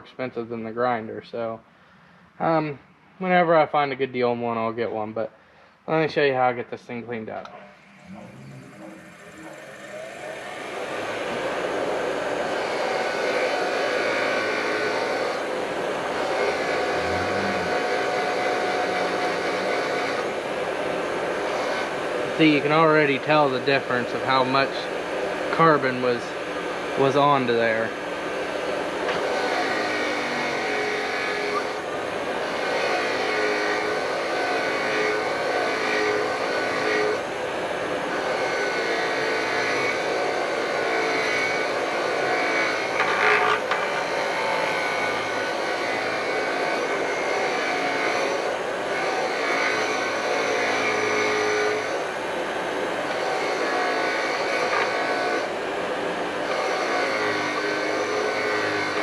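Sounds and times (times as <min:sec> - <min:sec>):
bench grinder motor whine: 0:07.4 - 0:59.0.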